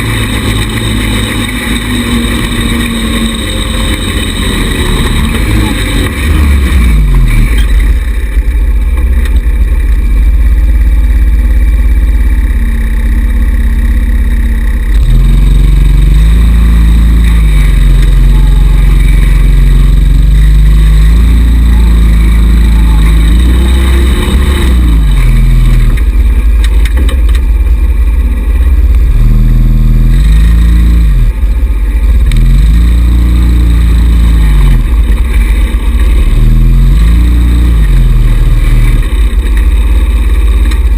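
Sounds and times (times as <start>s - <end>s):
small buggy engine revving: 0.0s - 40.9s.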